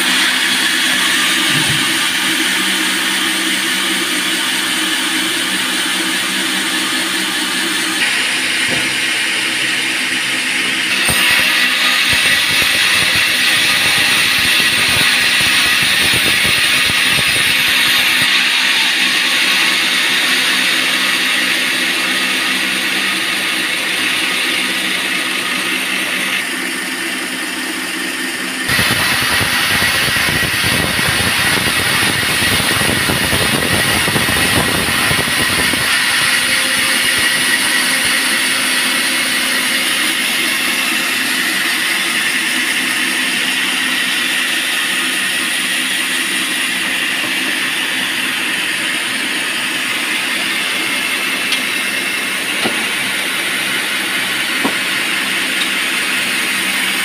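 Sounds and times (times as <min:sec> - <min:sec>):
band sawmill running: 0:00.0 - 0:57.0.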